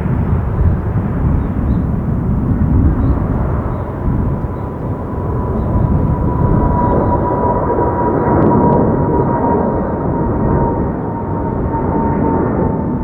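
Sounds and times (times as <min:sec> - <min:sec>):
jet engine whine: 0:00.0 - 0:13.0
jet engines rumbling: 0:00.0 - 0:13.0.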